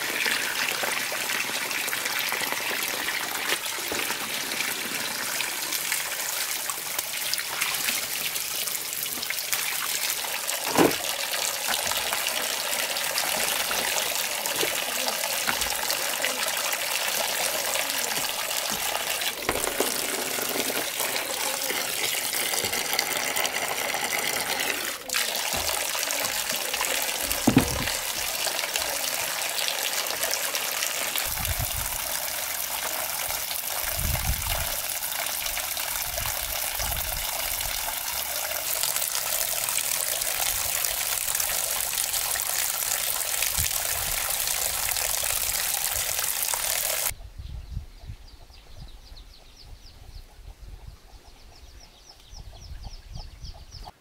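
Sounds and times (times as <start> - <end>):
running water gushing: 0.0 - 47.2.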